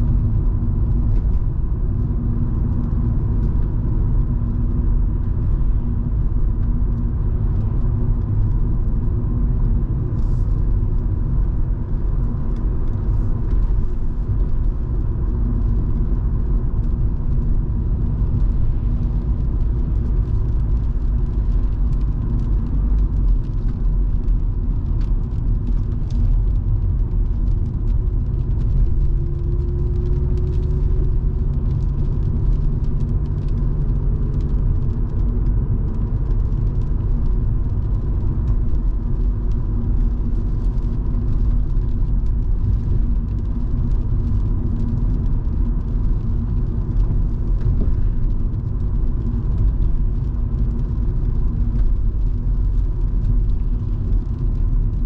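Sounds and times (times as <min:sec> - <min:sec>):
car interior driving rumble: 0:00.0 - 0:55.0
faint engine hum: 0:00.0 - 0:55.0.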